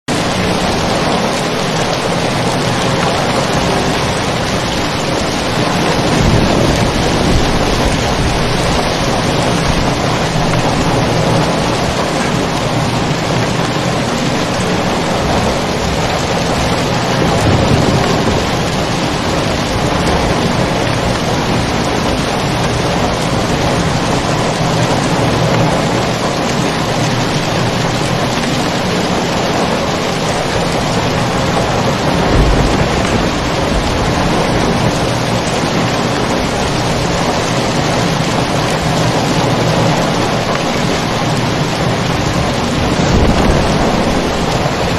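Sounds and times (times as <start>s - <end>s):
heavy rain: 0.0s - 44.9s
thunder rumbling: 0.1s - 44.9s.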